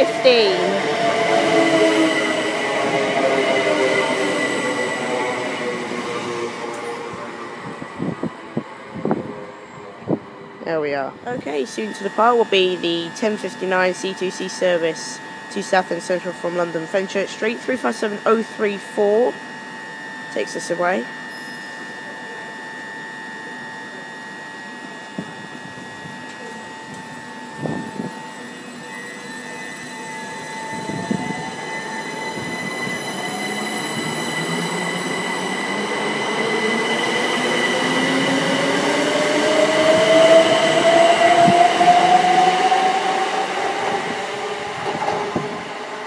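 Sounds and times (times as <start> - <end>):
train traction motors whining: 0.0 - 46.0.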